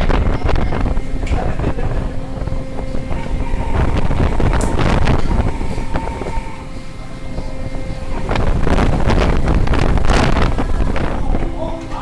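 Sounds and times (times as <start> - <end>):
boat engine drone: 0.0 - 12.0
rushing sea: 0.0 - 12.0
wind buffeting microphone: 0.0 - 12.0.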